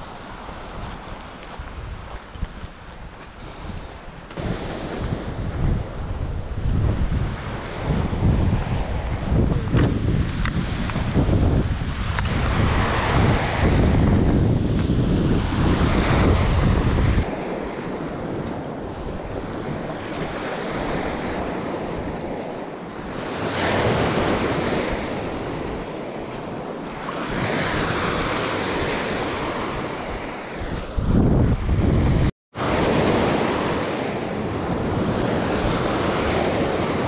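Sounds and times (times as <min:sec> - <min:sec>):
small waves washing on sand: 0:00.0 - 0:37.0
wind buffeting microphone: 0:00.0 - 0:37.0.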